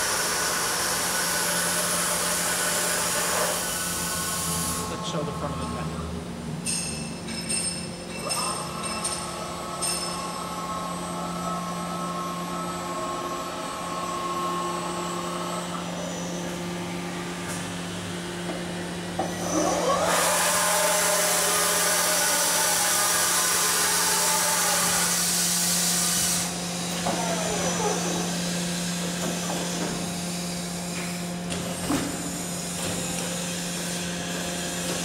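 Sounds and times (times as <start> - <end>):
machine hum: 0.0 - 35.0
whine of axis drives: 0.0 - 35.0.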